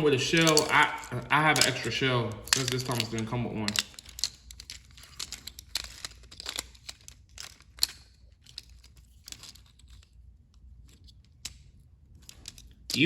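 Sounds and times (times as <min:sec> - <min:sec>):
plastic toy parts clicking: 0:00.3 - 0:10.2, 0:10.8 - 0:13.0.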